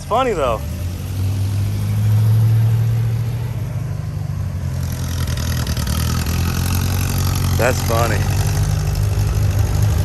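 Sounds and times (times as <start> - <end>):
car engine humming: 0.0 - 10.0
rasping exhaust: 0.0 - 10.0.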